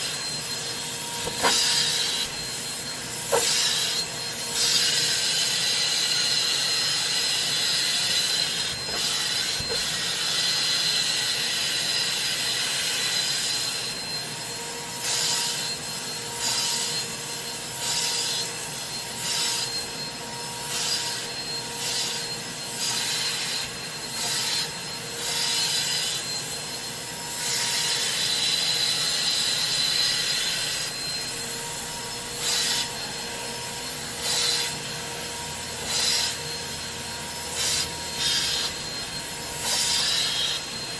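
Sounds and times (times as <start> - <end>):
carpet cleaner vacuum whine: 0.0 - 40.9.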